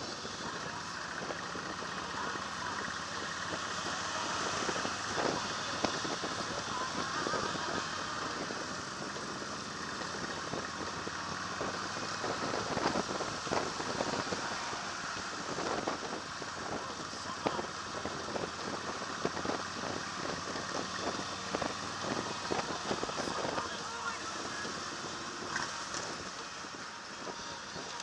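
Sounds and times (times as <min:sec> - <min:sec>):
motorcycle engine: 0:00.0 - 0:28.0
wind buffeting microphone: 0:00.0 - 0:28.0.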